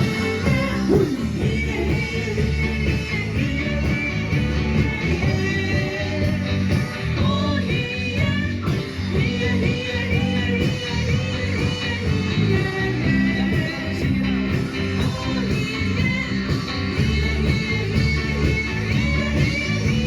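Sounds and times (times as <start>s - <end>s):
live band playing rock and roll: 0.0s - 20.0s.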